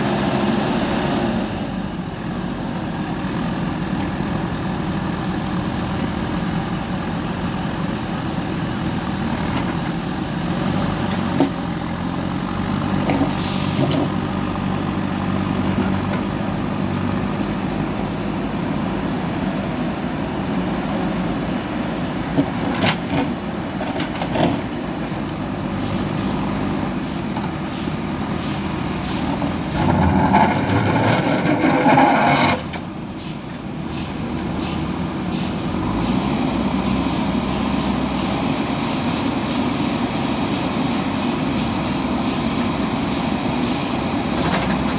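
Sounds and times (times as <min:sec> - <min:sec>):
diesel engine running under load: 0:00.0 - 0:44.9.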